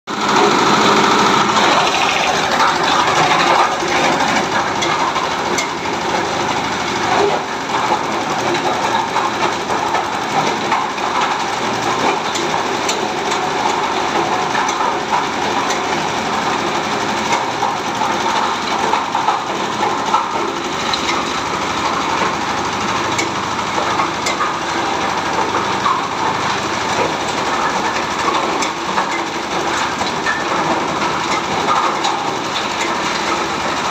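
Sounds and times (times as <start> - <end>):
shredding machine running: 0.1 - 33.9.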